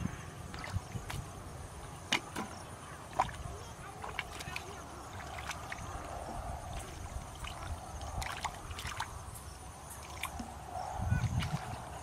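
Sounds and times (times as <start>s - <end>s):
drips: 0.0s - 12.0s
muddy water sloshing and splashing: 0.0s - 12.0s.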